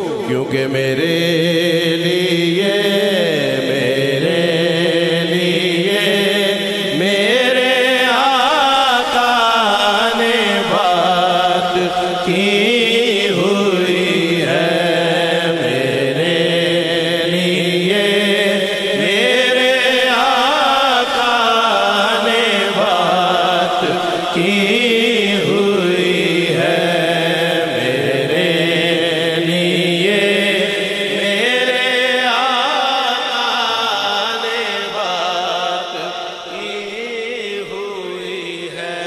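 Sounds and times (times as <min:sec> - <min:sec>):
man singing unaccompanied: 0:00.0 - 0:39.0.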